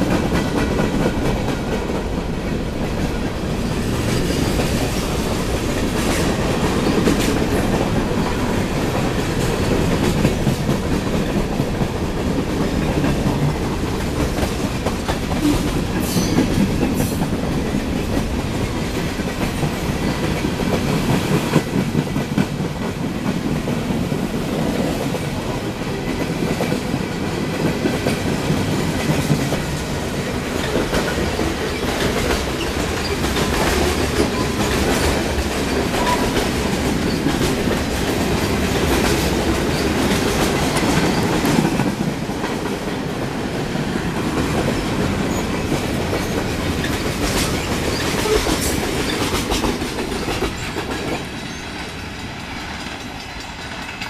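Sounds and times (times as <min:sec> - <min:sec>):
steel wheels rumbling on rail: 0:00.0 - 0:54.0
wheels clacking over rail joints: 0:00.0 - 0:54.0.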